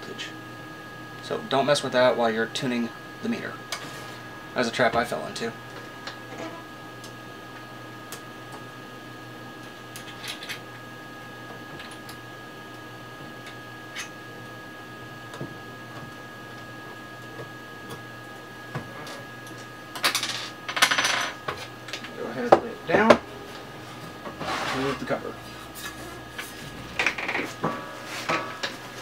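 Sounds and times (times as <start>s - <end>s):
faint hum with high whine: 0.0s - 29.0s.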